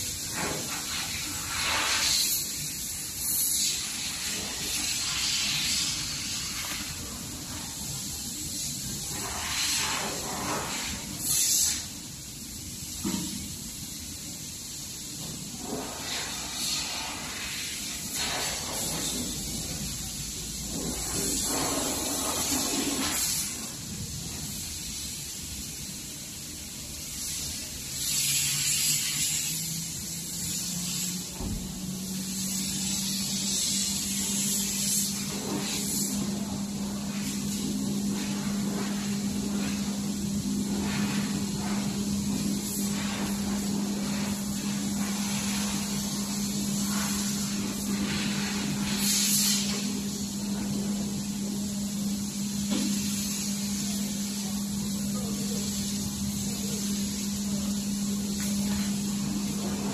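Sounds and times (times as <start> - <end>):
flowing air hiss: 0.0 - 59.9.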